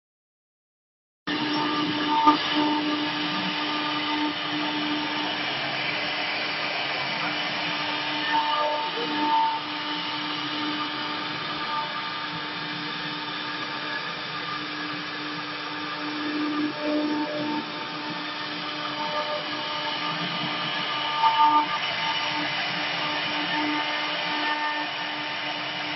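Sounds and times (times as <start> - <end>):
router motor whine carving wood: 1.3 - 25.9.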